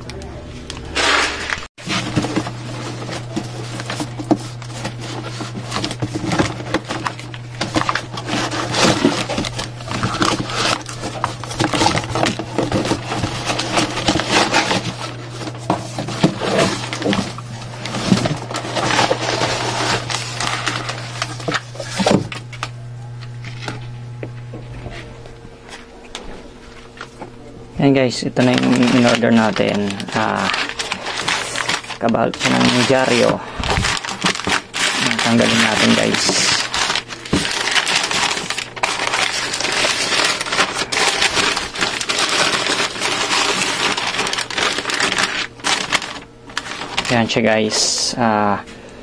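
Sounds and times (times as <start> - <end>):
steady low hum: 0.0 - 49.0
cardboard scraping and crackling: 0.8 - 22.7, 28.1 - 48.0
newspaper crinkling and rustling: 0.9 - 22.7, 27.8 - 48.2.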